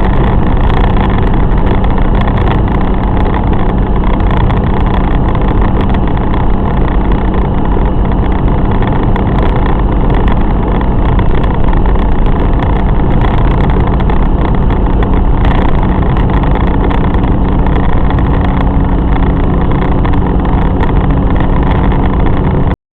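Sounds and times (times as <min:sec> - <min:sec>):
car engine running steadily: 0:00.0 - 0:22.8
road noise: 0:00.0 - 0:22.8.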